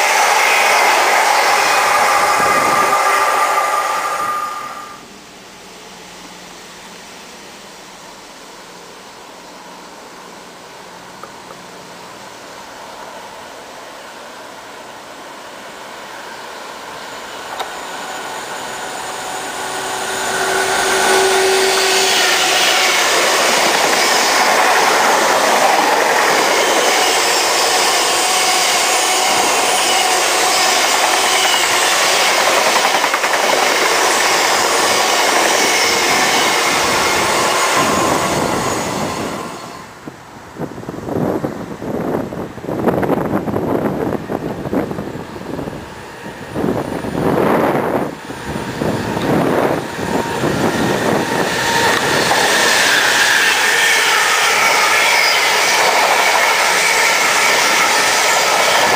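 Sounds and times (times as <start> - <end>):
diesel locomotive passing: 0.0 - 58.9.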